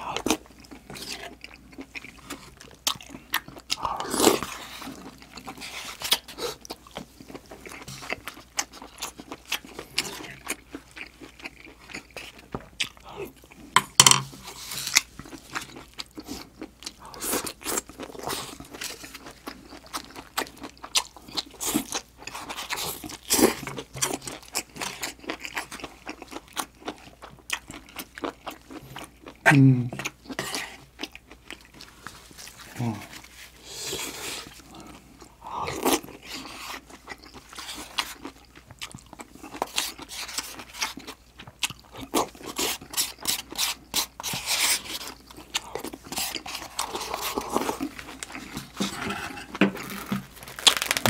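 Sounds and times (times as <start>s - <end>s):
person chewing and crunching: 0.0s - 51.0s.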